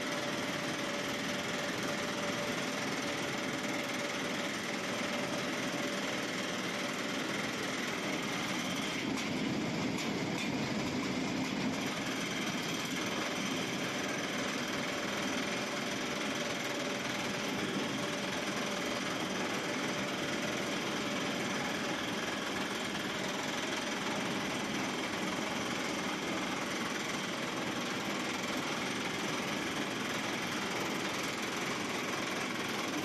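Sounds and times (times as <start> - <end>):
drilling machine running: 0.0 - 33.0.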